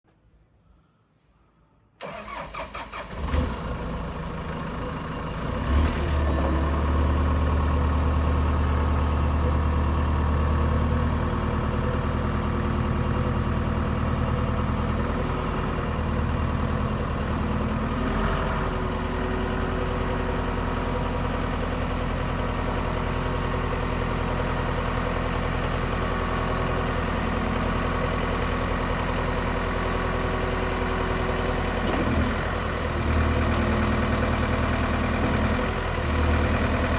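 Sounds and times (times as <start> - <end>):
forklift diesel engine idling: 2.0 - 36.9.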